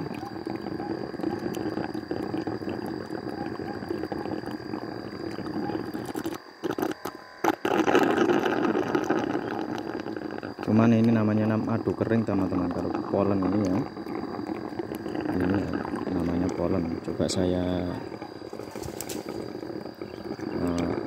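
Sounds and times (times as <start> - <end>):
suction tube gurgling hiss: 0.0 - 21.0.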